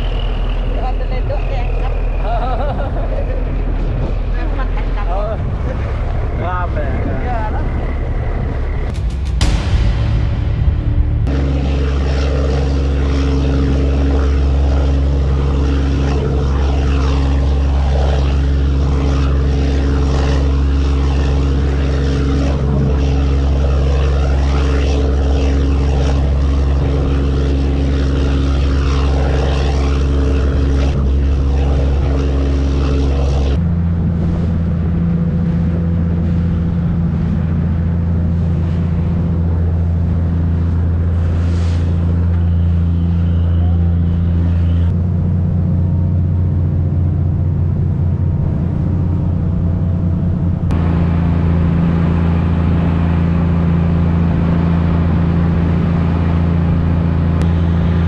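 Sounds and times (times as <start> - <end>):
ferry engine droning: 0.0 - 58.0
wind: 0.0 - 58.0.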